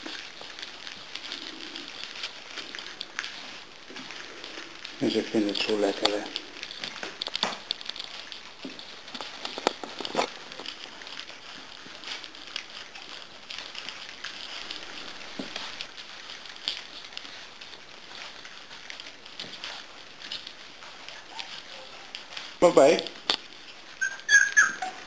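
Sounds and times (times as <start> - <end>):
puppies chewing from metal dish: 0.0 - 25.0.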